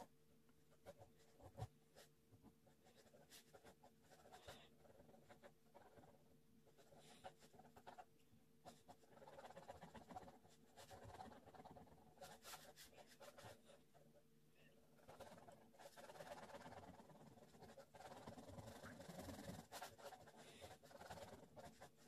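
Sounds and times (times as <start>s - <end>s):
pen scratching on paper: 0.7s - 14.2s, 14.8s - 22.0s.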